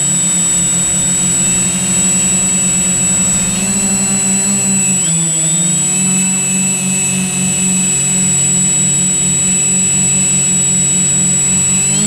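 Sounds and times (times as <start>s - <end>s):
drone propellers buzzing: 0.0s - 12.0s
high motor whine: 0.0s - 12.0s.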